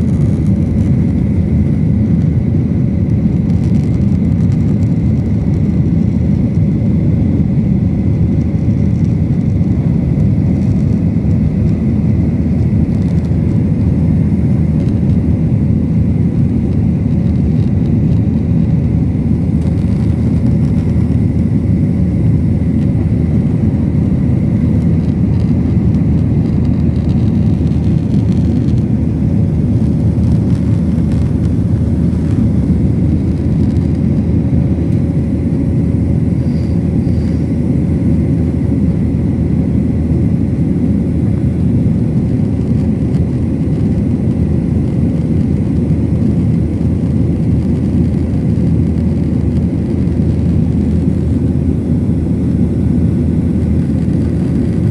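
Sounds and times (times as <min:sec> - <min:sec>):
airliner engine rumble: 0:00.0 - 0:54.9
faint steady hum: 0:00.0 - 0:54.9.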